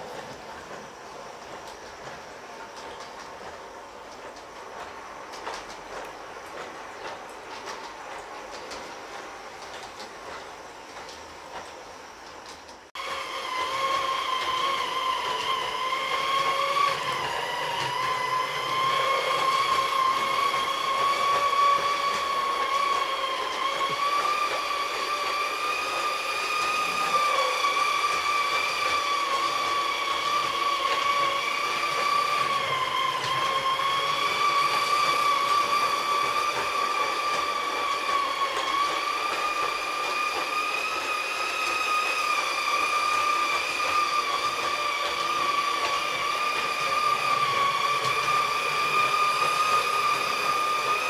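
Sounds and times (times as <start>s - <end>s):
model train motor and gear whine: 0.0s - 51.0s.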